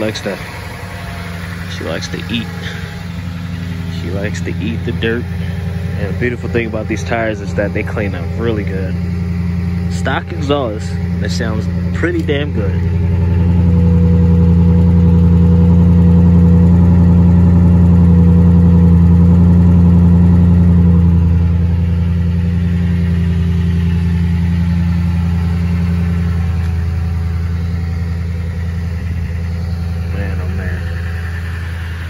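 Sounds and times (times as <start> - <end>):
pickup exhaust idling: 0.0 - 32.0.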